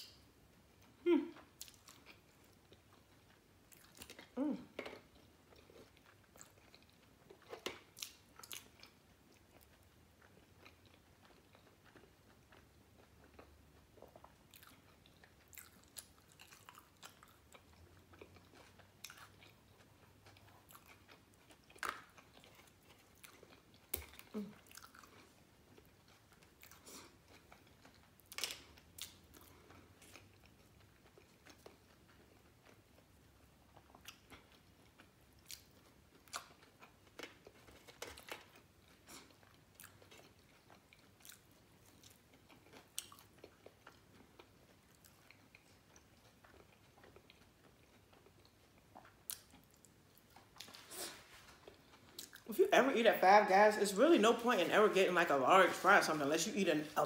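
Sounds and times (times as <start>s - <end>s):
person chewing and crunching: 0.0s - 52.5s.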